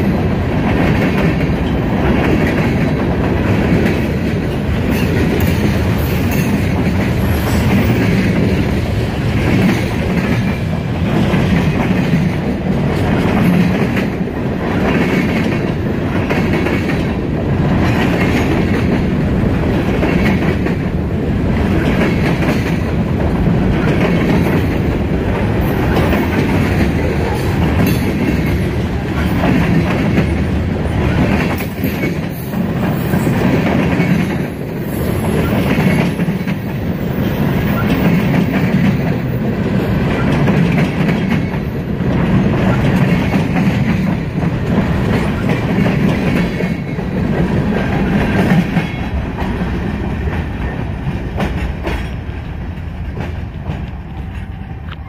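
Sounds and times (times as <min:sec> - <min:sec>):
freight train rumbling: 0:00.0 - 0:55.0
wheels clickety-clack on rails: 0:00.0 - 0:55.0.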